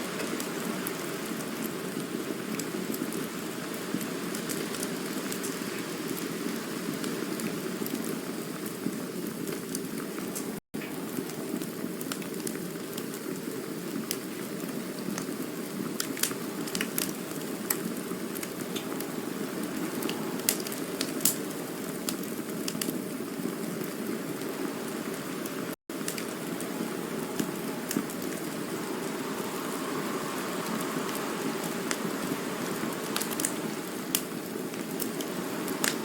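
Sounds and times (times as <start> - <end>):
campfire crackling and popping: 0.0 - 36.0.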